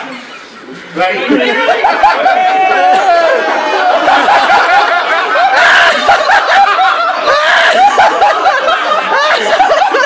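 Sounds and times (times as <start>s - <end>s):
men laughing loudly: 1.0s - 10.0s.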